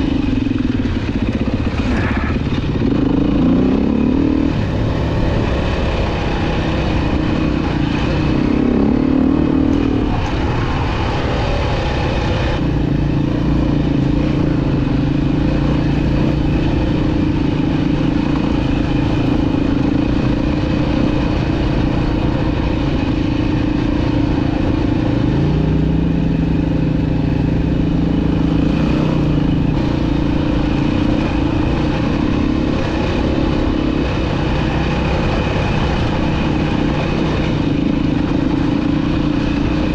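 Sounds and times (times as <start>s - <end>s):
dirt bike engine running: 0.0s - 39.9s
rush of noise: 0.0s - 39.9s.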